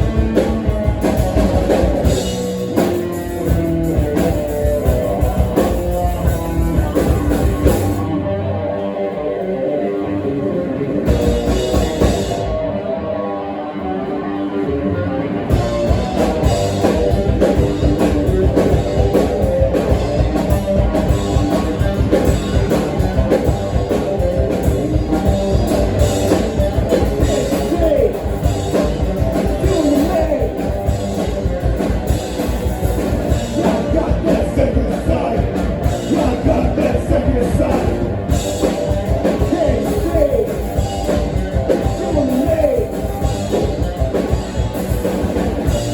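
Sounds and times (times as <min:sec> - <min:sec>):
drums: 0:00.0 - 0:45.9
electric guitar: 0:00.0 - 0:45.9
rock band playing loud: 0:00.0 - 0:45.9.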